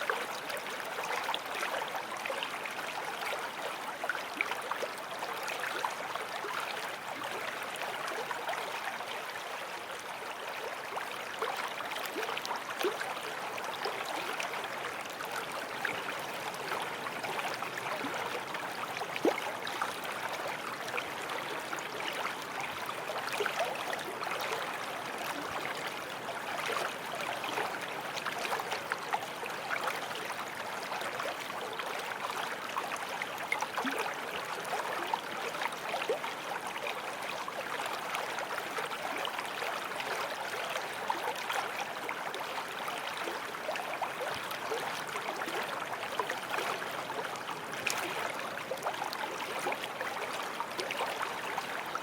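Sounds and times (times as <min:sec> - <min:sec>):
stream flowing over stones: 0:00.0 - 0:52.0.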